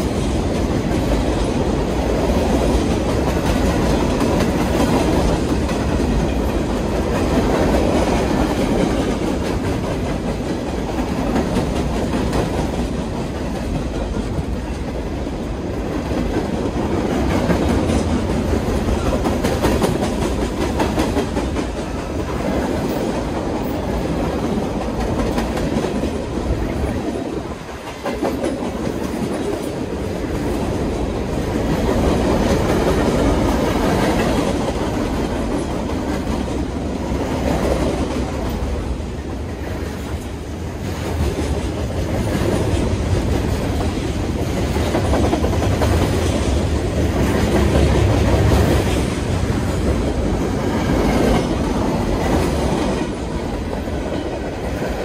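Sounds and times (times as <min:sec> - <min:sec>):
clickety-clack over rail joints: 0:00.0 - 0:55.0
freight train wheels rumbling: 0:00.0 - 0:55.0.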